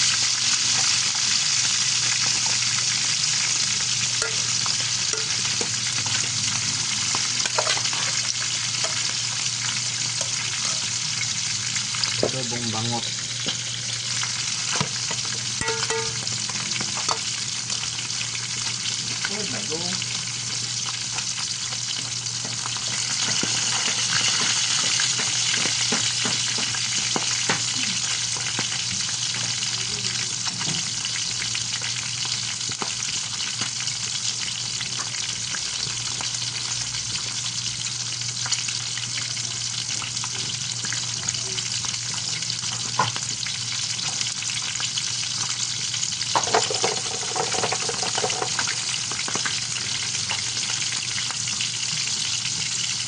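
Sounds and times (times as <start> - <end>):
fish sizzling in hot oil: 0.0 - 53.0.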